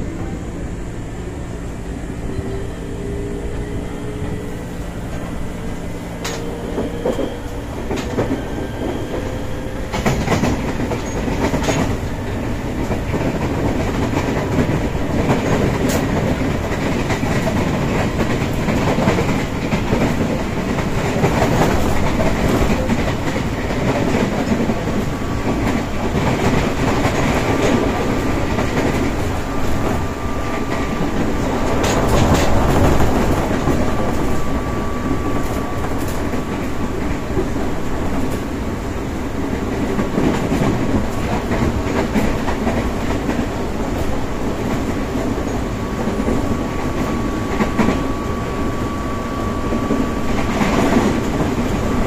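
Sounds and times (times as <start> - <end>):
train motors and wheels rumbling: 0.0 - 52.0.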